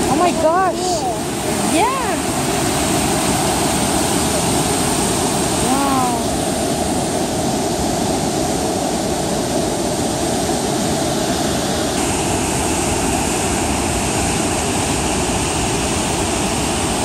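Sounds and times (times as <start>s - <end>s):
river rushing through rock gorge: 0.0s - 17.0s.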